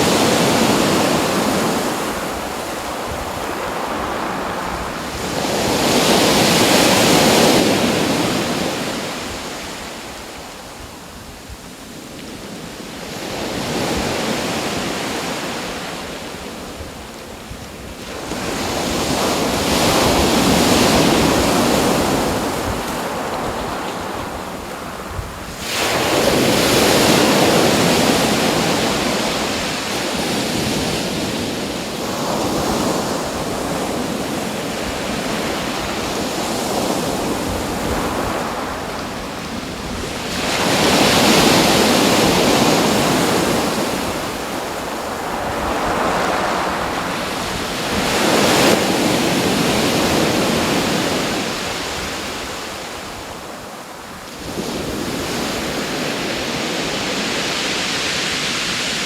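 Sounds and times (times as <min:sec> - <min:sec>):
ocean waves breaking: 0:00.0 - 0:10.9, 0:12.4 - 0:59.0.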